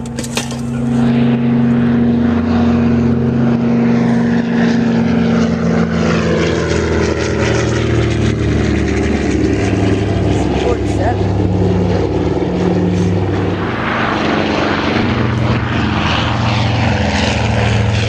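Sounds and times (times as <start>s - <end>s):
propeller airplane engine droning: 0.0s - 18.0s.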